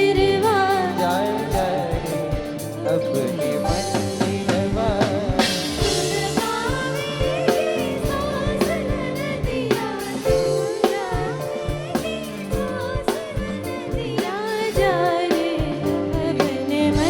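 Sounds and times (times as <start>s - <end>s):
devotional melody with sliding pitch: 0.0s - 17.0s
person singing: 0.0s - 17.0s
steady drum beat: 0.0s - 17.0s.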